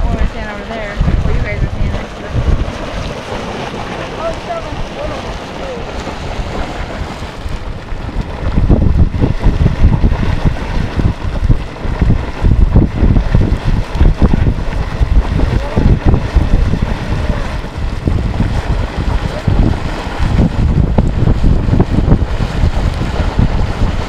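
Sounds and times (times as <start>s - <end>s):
geyser splashing and hissing: 0.0s - 24.0s
wind buffeting microphone: 0.0s - 24.0s.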